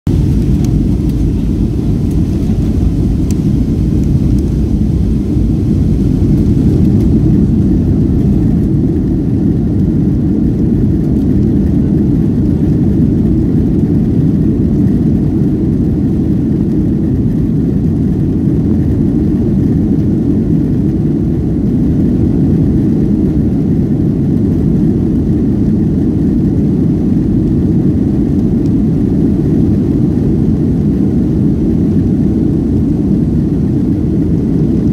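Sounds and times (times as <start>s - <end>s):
jet engines rumbling in cabin: 0.1s - 34.9s.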